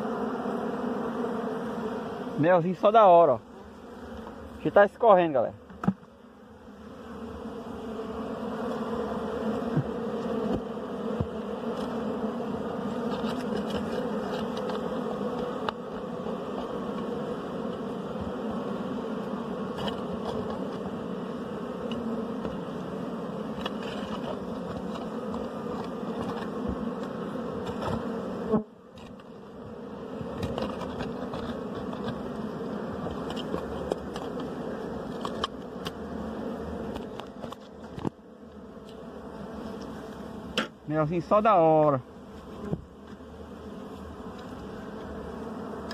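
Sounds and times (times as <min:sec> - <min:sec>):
bees buzzing: 0:00.0 - 0:45.9.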